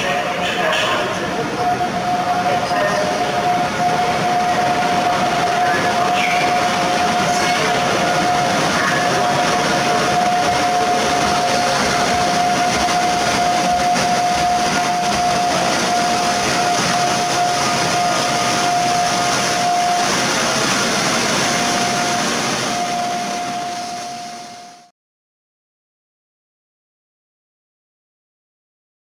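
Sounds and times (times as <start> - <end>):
train wheel and running noise: 0.0 - 24.9
high wheel squeal: 0.4 - 24.4.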